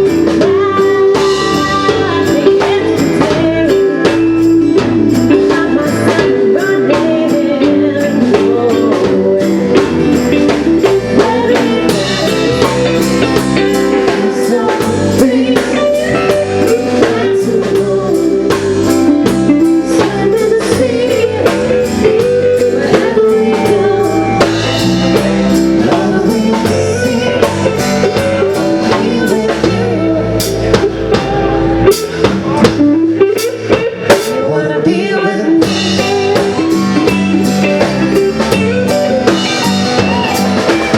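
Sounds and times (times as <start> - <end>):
drum kit beat: 0.0 - 34.6, 35.4 - 40.9
guitar: 0.0 - 40.9.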